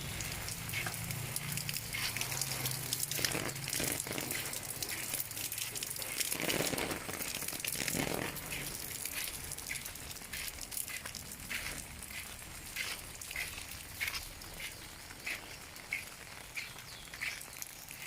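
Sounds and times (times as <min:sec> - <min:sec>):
rain drops pattering: 0:00.0 - 0:18.0.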